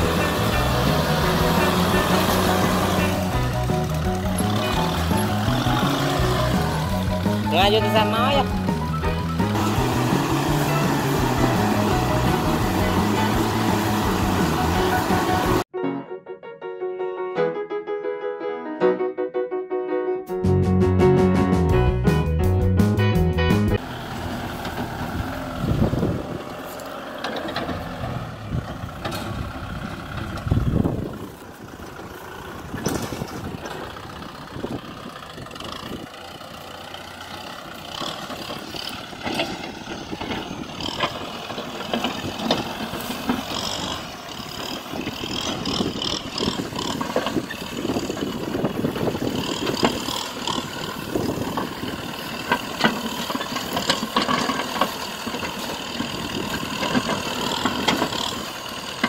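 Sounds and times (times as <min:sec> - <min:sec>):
tractor diesel engine running: 0:00.0 - 0:15.7, 0:20.6 - 0:59.0.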